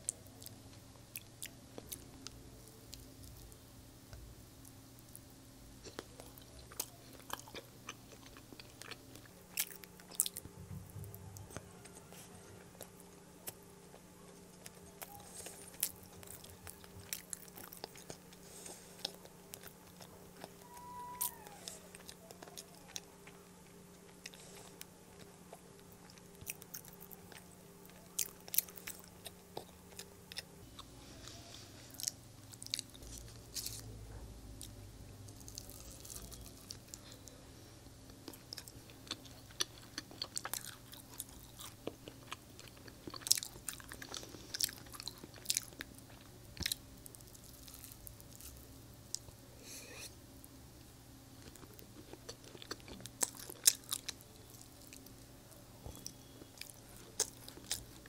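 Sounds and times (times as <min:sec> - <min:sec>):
chewing and biting: 0:05.8 - 0:31.3, 0:31.9 - 0:33.9, 0:34.6 - 0:37.3, 0:38.0 - 0:49.2, 0:51.4 - 0:55.2, 0:55.9 - 0:58.0.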